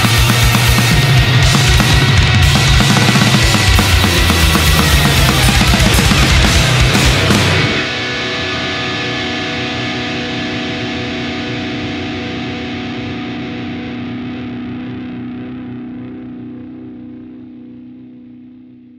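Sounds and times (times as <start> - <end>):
metal band playing: 0.0 - 16.3
distorted electric guitar chord ringing: 0.0 - 18.9.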